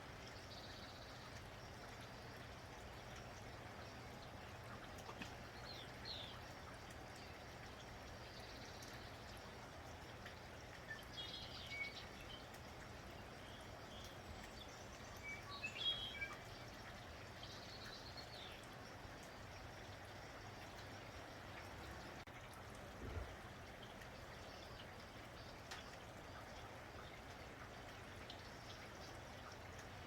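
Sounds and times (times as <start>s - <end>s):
faint rain: 0.0s - 30.0s
songbirds chirping: 0.0s - 30.0s.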